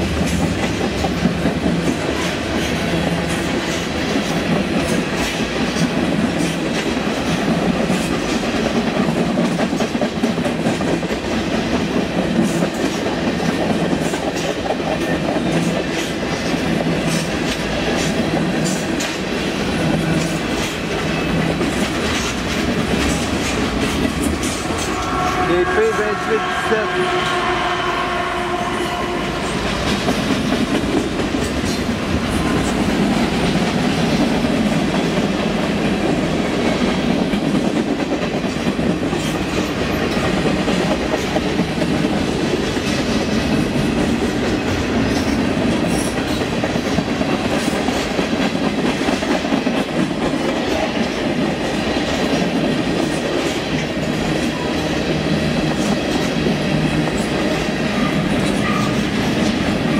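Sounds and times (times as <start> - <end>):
clickety-clack of rail joints: 0.0 - 26.0, 29.3 - 59.9
steel wheels rumbling on rail: 0.0 - 59.9.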